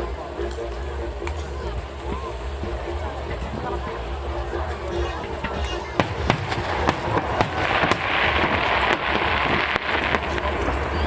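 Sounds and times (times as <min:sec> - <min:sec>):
low rumble: 0:00.0 - 0:11.0
fireworks bangs: 0:01.2 - 0:11.0.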